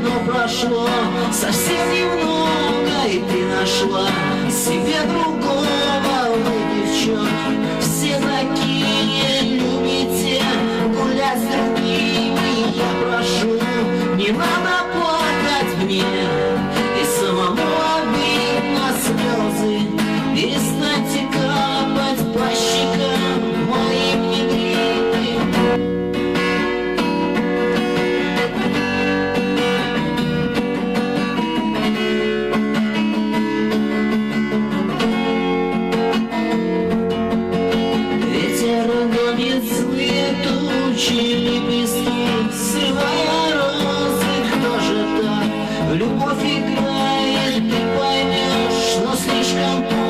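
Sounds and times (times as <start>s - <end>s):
acoustic guitar song: 0.0s - 50.0s.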